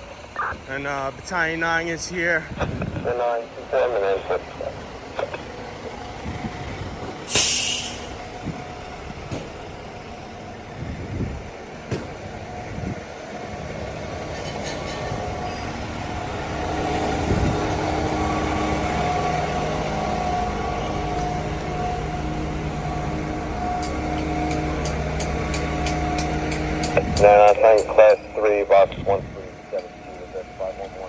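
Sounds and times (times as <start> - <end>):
large vehicle engine running: 0.0 - 31.0.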